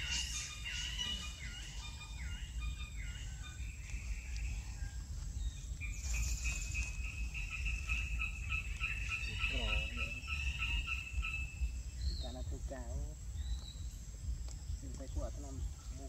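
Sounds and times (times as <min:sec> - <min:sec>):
insects chirping: 0:00.0 - 0:16.0
low steady rumble: 0:00.0 - 0:16.0.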